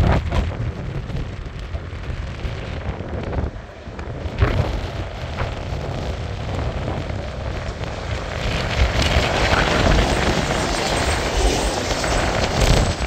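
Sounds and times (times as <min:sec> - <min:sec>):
diesel locomotive engines droning: 0:00.2 - 0:13.0.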